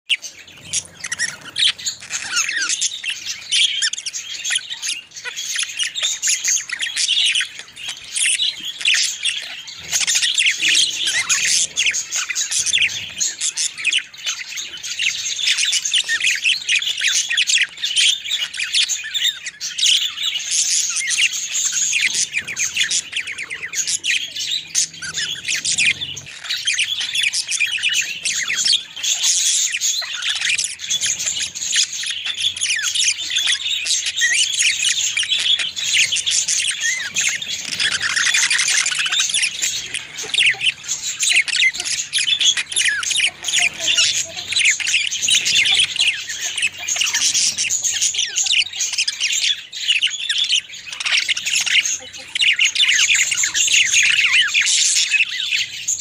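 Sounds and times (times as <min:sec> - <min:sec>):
budgerigars chirping and squawking: 0:00.1 - 0:56.0.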